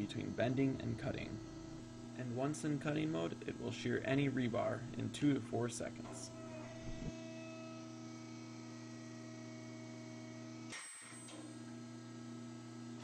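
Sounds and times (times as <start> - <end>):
electric motor humming: 0.0 - 10.8.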